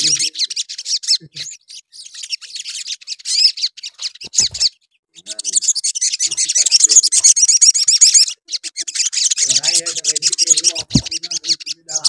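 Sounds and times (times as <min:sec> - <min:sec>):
bird twittering chirps: 0:00.0 - 0:12.0.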